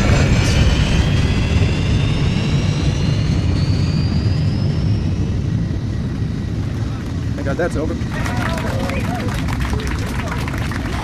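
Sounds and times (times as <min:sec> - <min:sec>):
jet engines rumbling and whining: 0:00.0 - 0:11.0.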